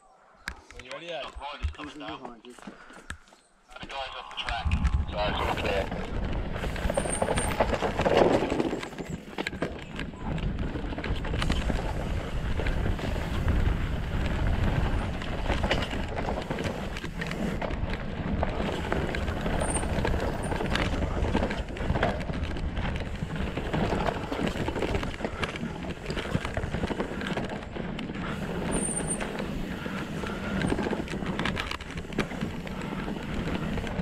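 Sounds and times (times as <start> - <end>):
bike tyres rolling on dirt: 3.9 - 34.0
wind rumble on microphone: 4.4 - 34.0
bike rattling over bumps: 5.0 - 34.0.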